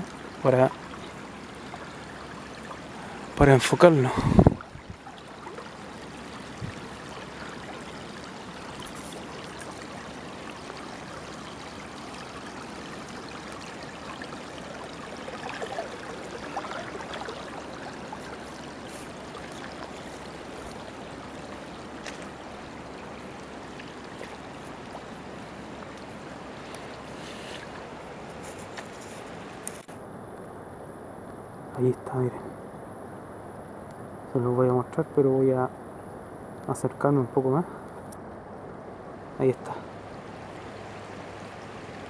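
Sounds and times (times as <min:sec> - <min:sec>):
stream water trickling: 0:00.0 - 0:42.0.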